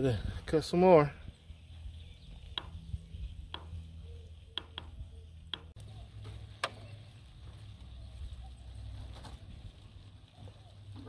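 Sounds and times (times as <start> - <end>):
faint low outdoor rumble: 0.0 - 11.0.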